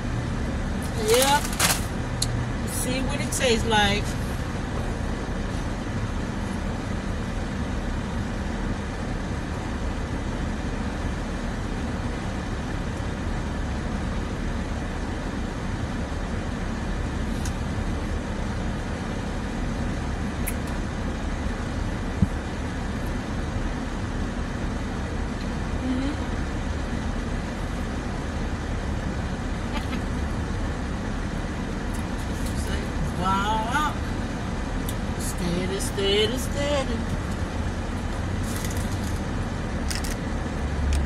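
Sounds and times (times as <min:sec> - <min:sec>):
car engine idling in cabin: 0:00.0 - 0:41.0.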